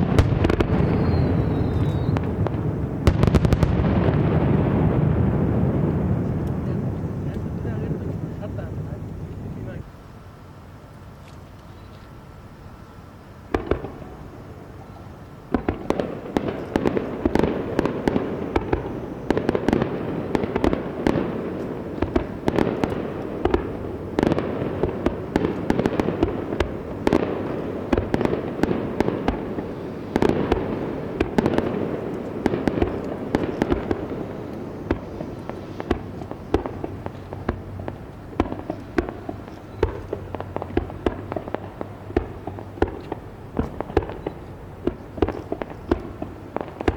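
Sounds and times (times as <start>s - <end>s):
firework shell bursts crackling: 0.0s - 9.2s, 15.5s - 46.9s
firework bang: 0.0s - 9.8s, 13.5s - 14.4s, 15.5s - 46.9s.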